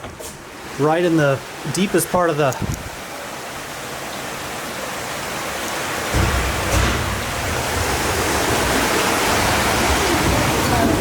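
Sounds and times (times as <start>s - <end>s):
rushing floodwater: 0.0s - 11.0s
heavy rain: 0.4s - 11.0s.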